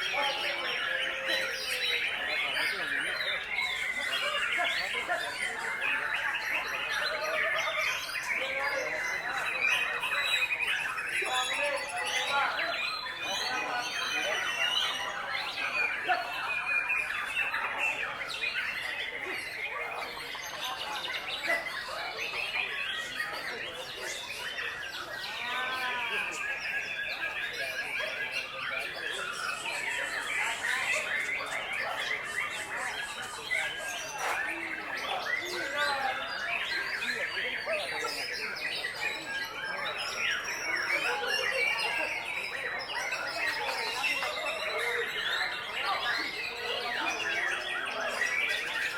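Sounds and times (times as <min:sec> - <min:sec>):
birds singing: 0:00.0 - 0:48.9
songbirds chorus: 0:00.0 - 0:48.9.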